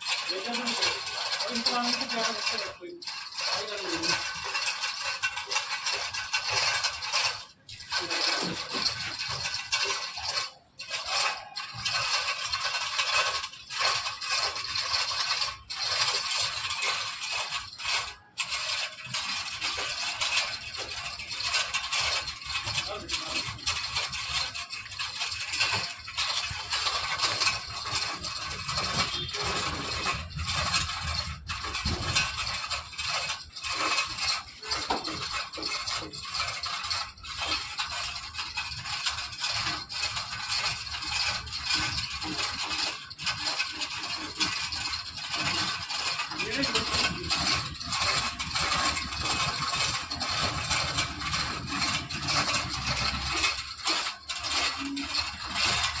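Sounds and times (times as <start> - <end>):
metallic clattering: 0.0 - 56.0
scraping: 0.1 - 56.0.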